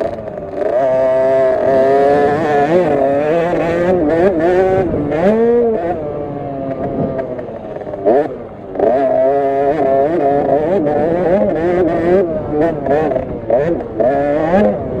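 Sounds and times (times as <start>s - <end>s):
minibike engine revving: 0.0s - 15.0s.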